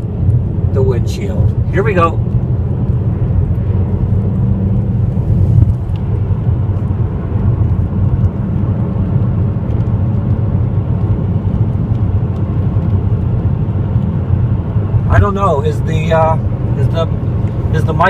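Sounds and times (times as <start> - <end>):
car road and engine drone: 0.0 - 18.0.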